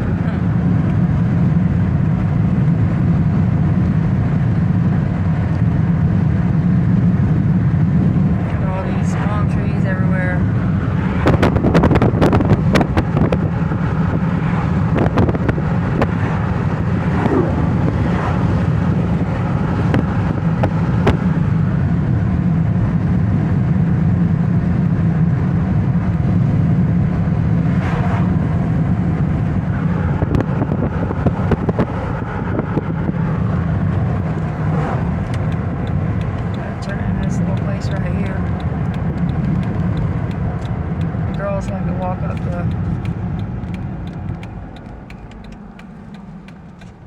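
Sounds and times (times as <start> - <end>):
wind on microphone: 0.0 - 23.7, 24.9 - 47.0
vehicle engine and road noise: 0.0 - 47.0.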